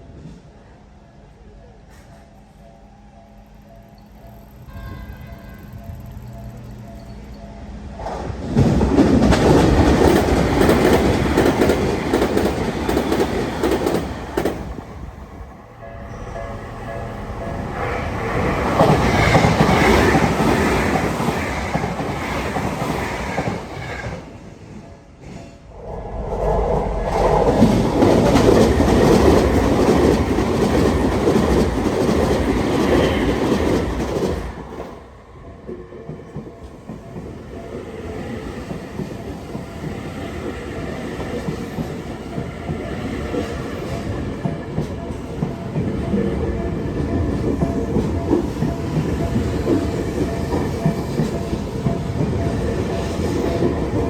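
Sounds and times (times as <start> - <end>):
electric trains passing: 0.0 - 54.0.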